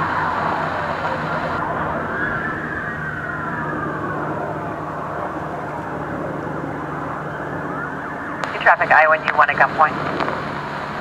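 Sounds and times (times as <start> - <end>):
police sirens wailing: 0.0 - 11.0
steady low hum: 0.0 - 11.0.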